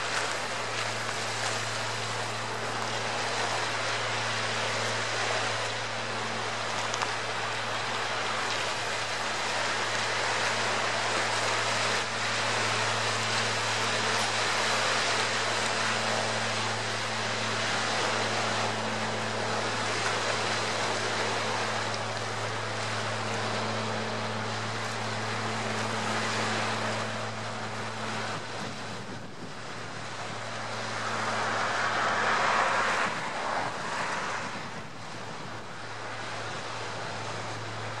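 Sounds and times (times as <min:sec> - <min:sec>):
low steady hum: 0:00.0 - 0:38.0
sea water rushing against rocks: 0:00.0 - 0:38.0.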